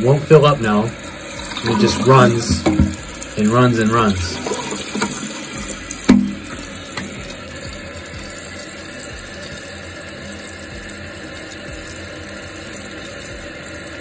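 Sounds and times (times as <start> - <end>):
toilet tank water running: 0.0 - 14.0.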